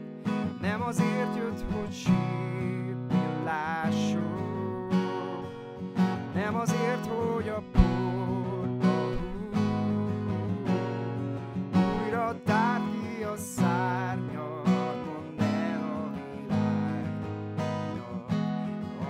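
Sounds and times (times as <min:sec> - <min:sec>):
strummed acoustic guitar: 0:00.0 - 0:19.0
man singing: 0:00.4 - 0:19.0.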